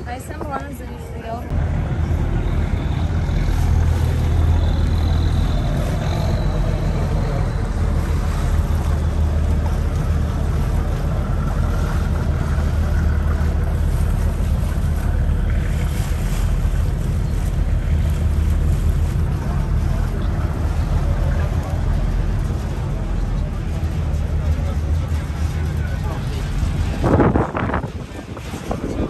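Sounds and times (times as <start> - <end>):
boat engine rumbling: 0.0 - 29.0
wind on microphone: 0.0 - 29.0.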